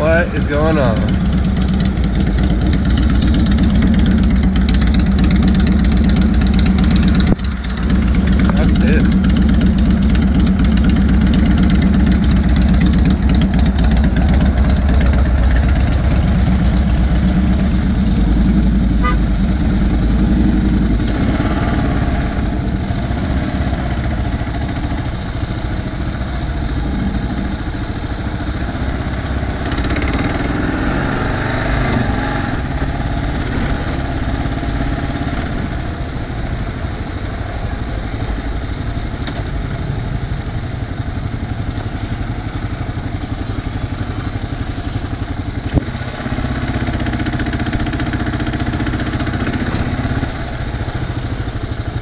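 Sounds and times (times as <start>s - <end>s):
motorcycle engine at low speed: 0.0s - 52.0s.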